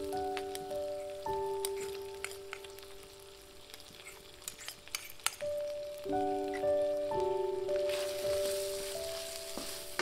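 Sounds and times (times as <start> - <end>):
background music with held notes: 0.0 - 10.0
food sizzling in a wok: 0.0 - 10.0.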